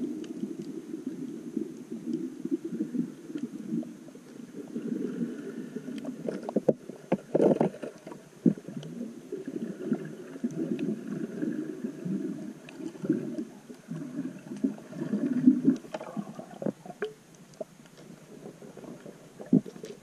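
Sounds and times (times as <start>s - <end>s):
muffled underwater water rushing: 0.0s - 20.0s.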